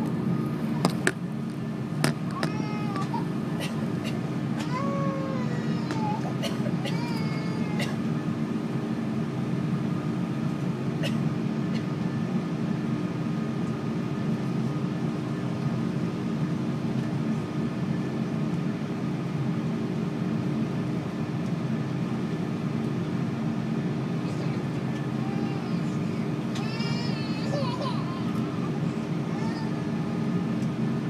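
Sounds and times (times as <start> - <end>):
aircraft cabin engine drone: 0.0 - 31.0.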